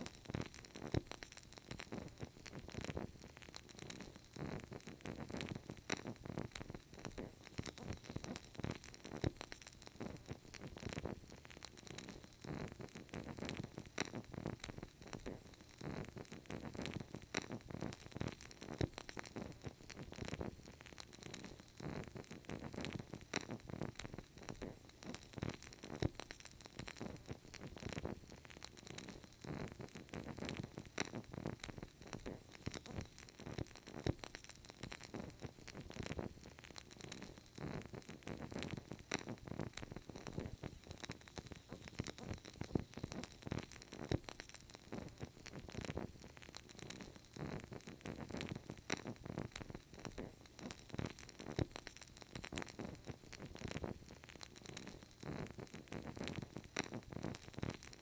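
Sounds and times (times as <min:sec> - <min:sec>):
candle crackling: 0:00.0 - 0:58.0
faint hiss: 0:00.0 - 0:58.0.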